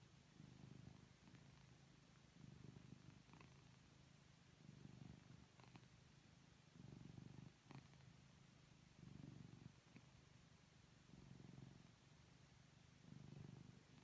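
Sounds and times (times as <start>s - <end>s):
kitten purring softly: 0.0s - 14.0s.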